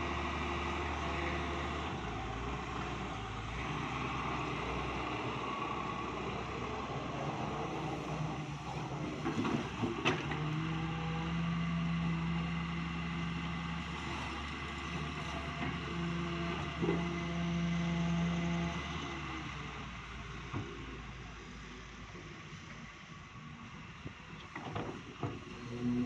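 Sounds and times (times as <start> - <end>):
excavator engine and hydraulics: 0.0 - 26.0.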